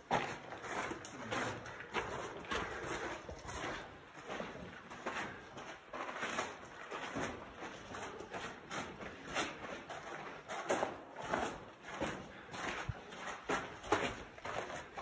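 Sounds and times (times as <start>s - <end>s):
footsteps on sandy ground: 0.0s - 15.0s.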